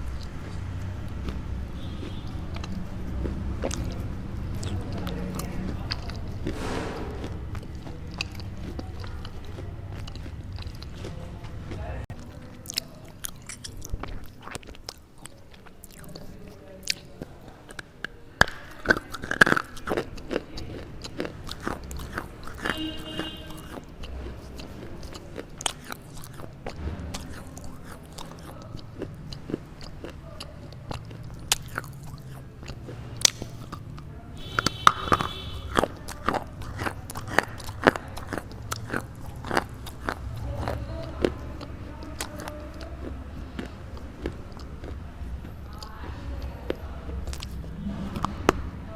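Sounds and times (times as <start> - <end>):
teeth crunching clay: 0.0 - 48.9.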